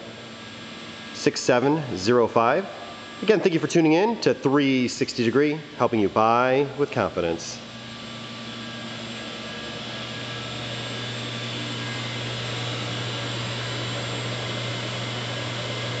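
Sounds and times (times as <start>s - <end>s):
machine hum with fan noise: 0.0s - 16.0s.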